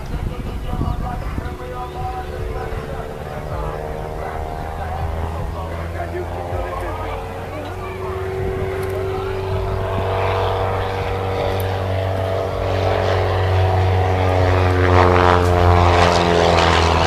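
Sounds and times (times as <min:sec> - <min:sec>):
propeller plane engine passing: 0:00.0 - 0:17.0.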